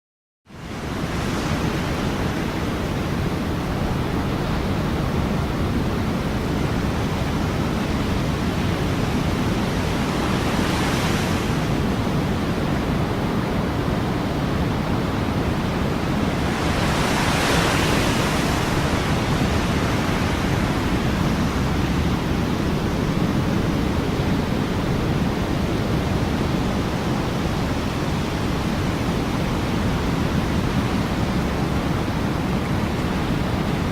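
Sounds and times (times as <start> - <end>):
ocean waves washing: 0.5 - 33.9
waves breaking: 0.6 - 33.9.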